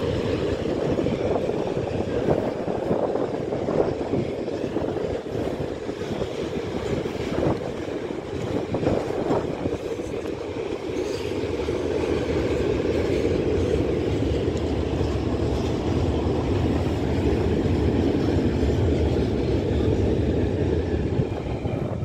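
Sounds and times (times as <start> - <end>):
freight train wheels rumbling on track: 0.0 - 22.0.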